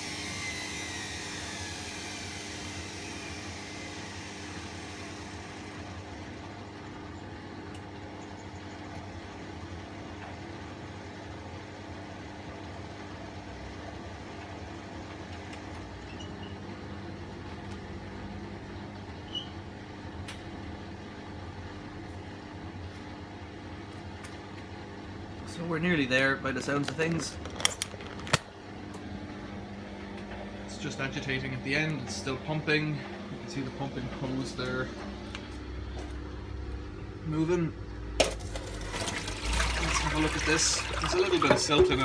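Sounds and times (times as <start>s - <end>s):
drain pump low hum: 0.0s - 27.4s, 28.5s - 42.0s.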